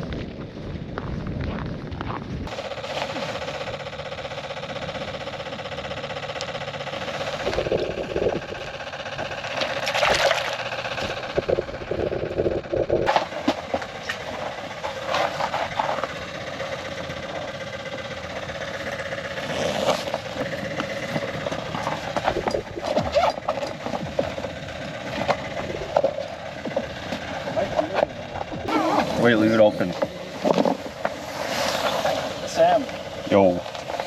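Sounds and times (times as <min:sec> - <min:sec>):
small engine running: 0:00.3 - 0:34.0.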